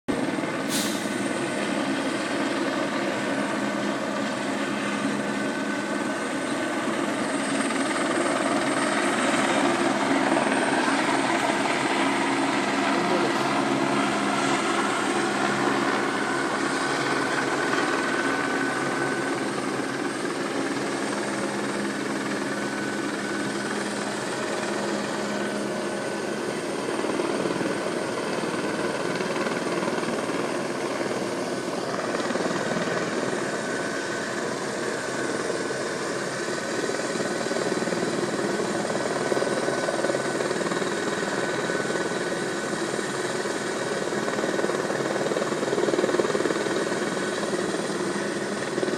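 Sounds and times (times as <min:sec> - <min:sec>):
helicopter rotor and engine: 0:00.1 - 0:48.9.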